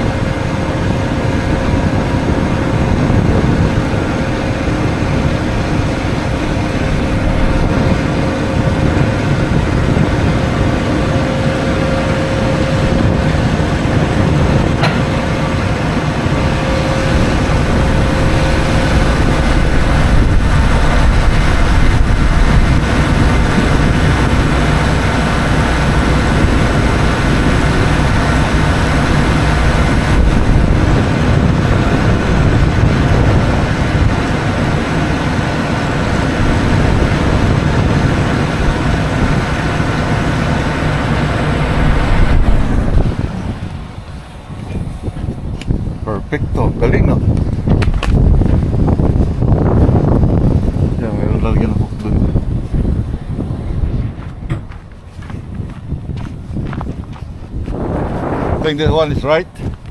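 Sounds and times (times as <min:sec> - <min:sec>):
faint steady whine: 0:00.0 - 0:59.9
heavy truck engine rumble: 0:00.0 - 0:59.9.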